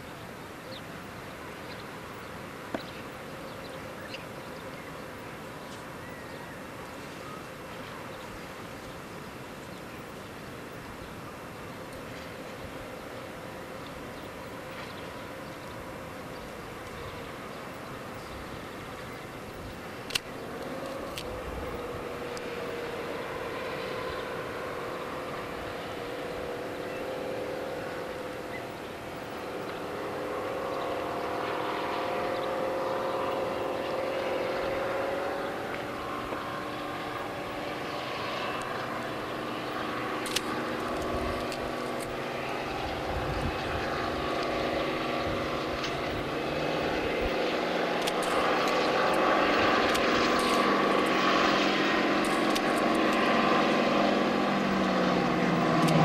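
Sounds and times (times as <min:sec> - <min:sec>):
diesel locomotive engine: 0:00.0 - 0:56.0.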